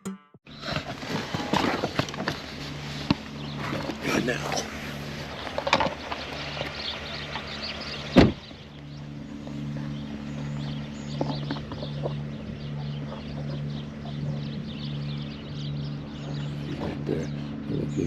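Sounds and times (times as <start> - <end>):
car engine idling: 0.5 - 18.0.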